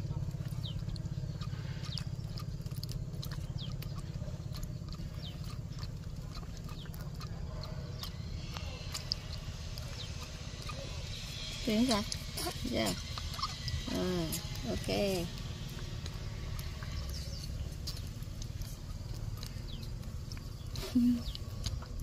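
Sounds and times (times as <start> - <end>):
steady low hum: 0.0 - 22.0
wet sucking clicks: 0.3 - 22.0.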